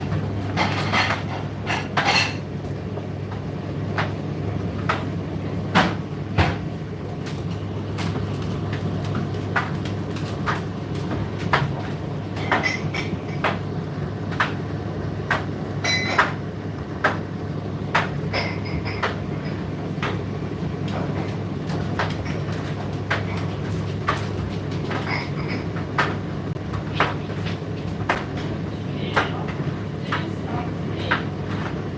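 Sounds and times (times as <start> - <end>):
tumble dryer motor hum: 0.0 - 31.9.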